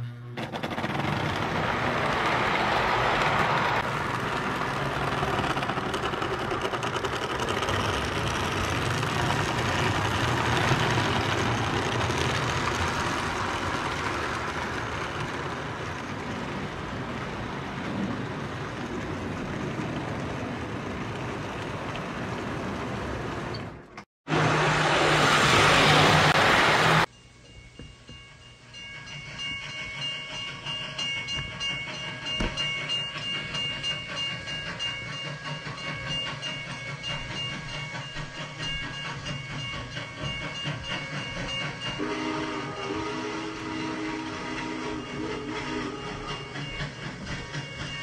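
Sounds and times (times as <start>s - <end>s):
electric toy trains rumbling on track: 0.0s - 23.7s, 28.8s - 48.0s.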